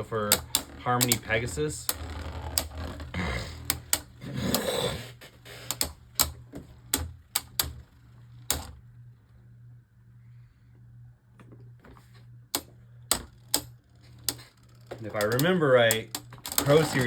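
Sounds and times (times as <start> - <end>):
whirring rattle: 0.0 - 9.4, 12.5 - 17.0.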